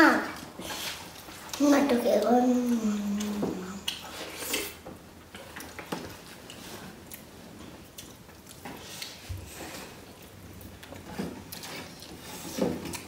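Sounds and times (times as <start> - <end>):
soft squishing of eating: 0.0 - 13.0.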